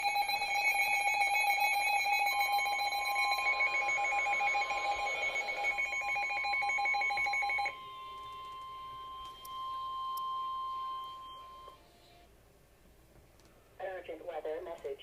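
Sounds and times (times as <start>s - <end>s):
electronic alarm tone: 0.0s - 12.3s.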